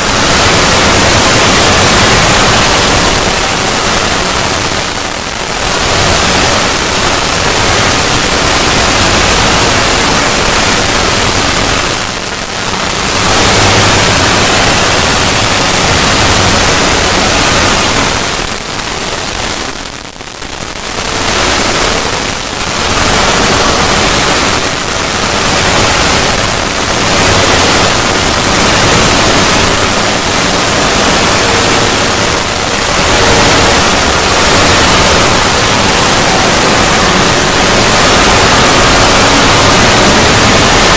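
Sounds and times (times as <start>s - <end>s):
harsh distorted static noise: 0.0s - 40.9s.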